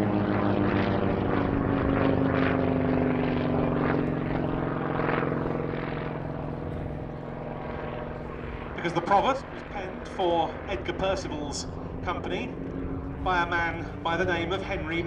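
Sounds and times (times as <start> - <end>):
radial aircraft engine overhead: 0.0 - 15.0.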